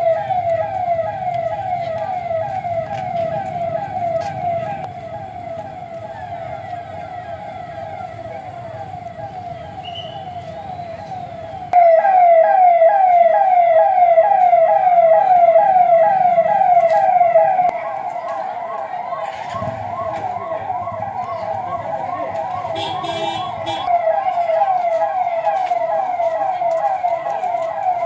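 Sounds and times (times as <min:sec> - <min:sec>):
police siren: 0:00.0 - 0:28.0.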